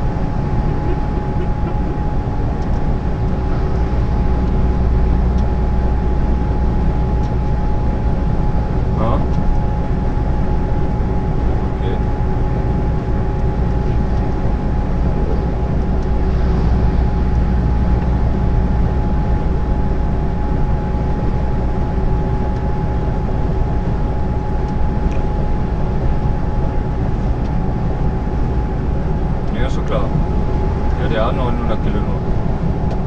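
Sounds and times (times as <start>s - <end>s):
diesel engine and road noise drone: 0.0s - 33.0s.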